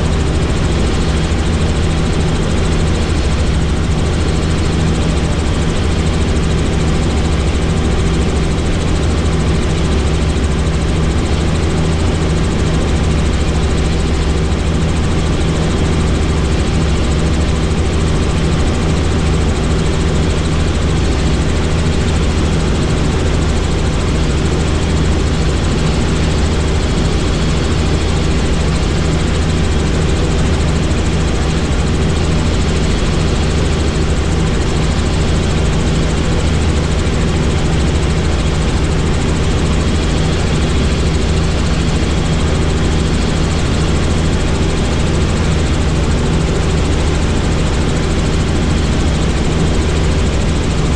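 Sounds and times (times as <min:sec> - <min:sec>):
helicopter turbine and rotor drone: 0:00.0 - 0:50.9.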